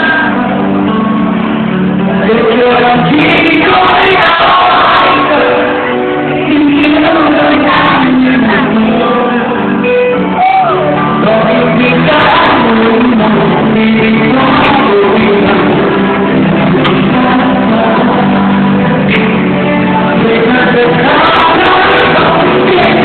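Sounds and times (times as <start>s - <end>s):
live pop music with singer: 0.0s - 23.0s.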